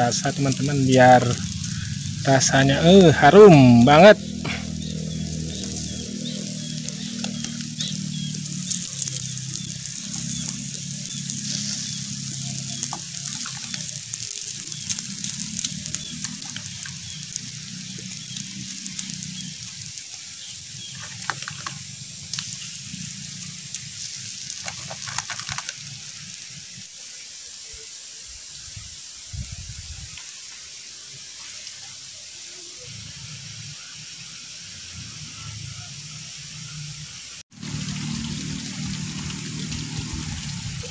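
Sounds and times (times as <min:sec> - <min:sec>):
fish sizzling on a grill: 0:00.0 - 0:40.9.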